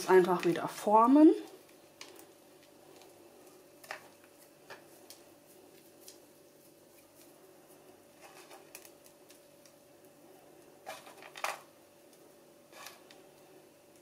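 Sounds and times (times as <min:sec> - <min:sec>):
faint steady hum: 0:00.0 - 0:14.0
hands kneading dough: 0:00.0 - 0:14.0.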